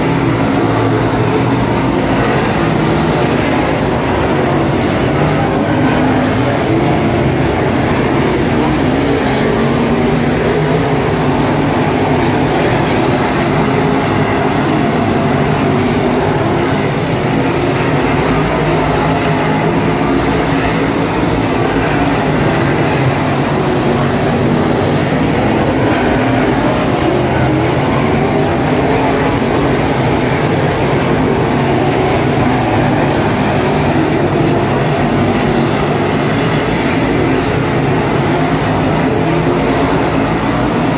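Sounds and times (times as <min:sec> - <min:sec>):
race car engines droning: 0:00.0 - 0:40.9.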